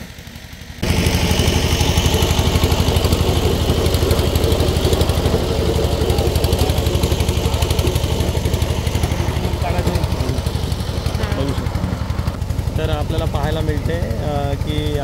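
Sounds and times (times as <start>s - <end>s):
tiller engine chugging: 0.0s - 15.0s.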